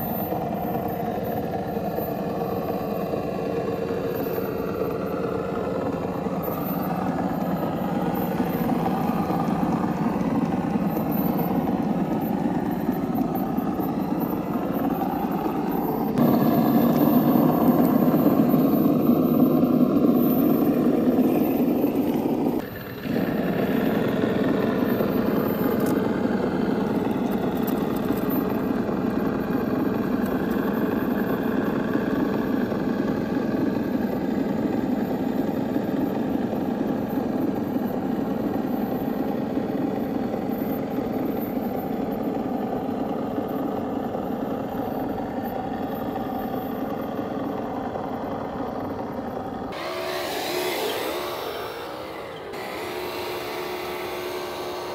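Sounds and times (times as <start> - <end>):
toy truck motor whining: 0.0 - 54.9.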